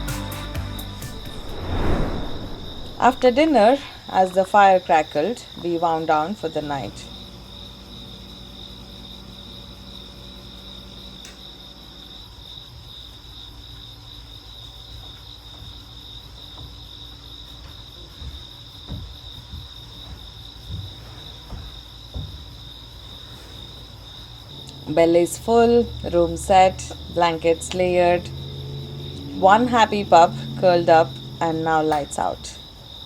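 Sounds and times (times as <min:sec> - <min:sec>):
crickets trilling: 0:01.2 - 0:33.0.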